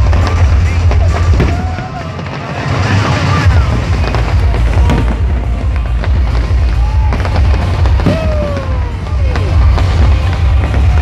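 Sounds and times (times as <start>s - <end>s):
firework bangs and crackles: 0.0s - 11.0s
music playing: 0.0s - 11.0s.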